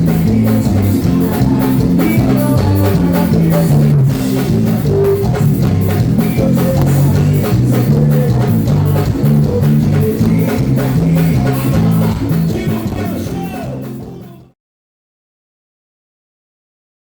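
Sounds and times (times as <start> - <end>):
band playing drums bass guitar: 0.0 - 14.6.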